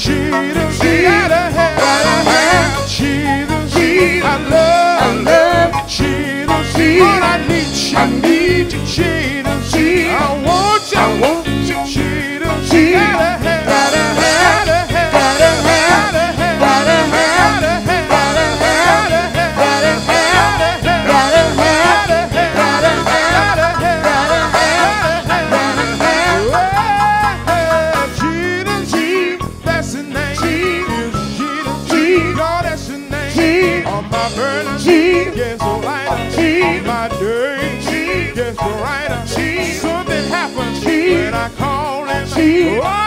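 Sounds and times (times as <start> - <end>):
gospel band playing: 0.0 - 43.0
person singing: 0.0 - 43.0.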